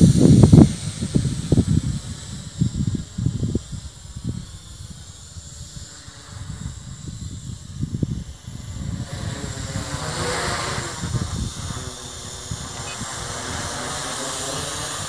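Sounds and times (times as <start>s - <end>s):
toy drone rotors whirring: 0.0s - 15.0s
wind rumble on microphone: 0.0s - 15.0s.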